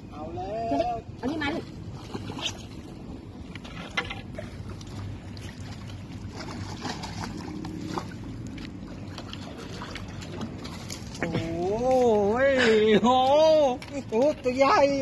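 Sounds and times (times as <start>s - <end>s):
low steady hum: 0.0s - 15.0s
water splashing and dripping: 1.2s - 15.0s.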